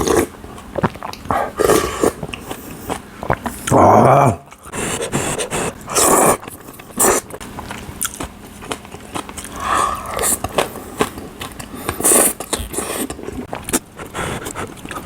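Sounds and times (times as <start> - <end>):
mouth chewing with wet clicks: 0.1 - 3.8, 6.4 - 15.0.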